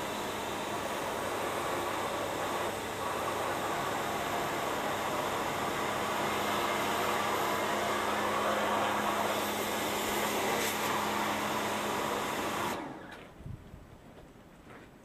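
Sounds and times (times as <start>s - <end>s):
pressure washer spraying water: 0.0s - 12.9s
pressure washer motor hum: 0.0s - 13.1s.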